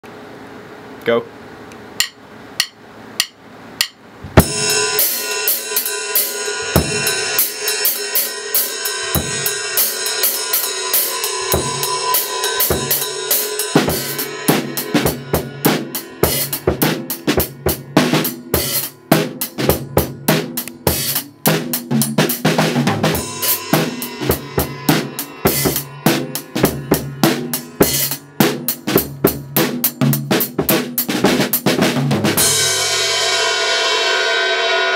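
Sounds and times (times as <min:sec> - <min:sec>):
drum kit beat: 0:02.0 - 0:34.9.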